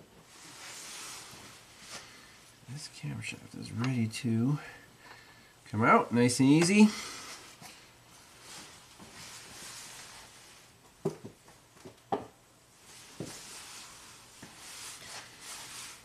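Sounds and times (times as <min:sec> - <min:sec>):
soft steady hiss: 0:00.0 - 0:16.0.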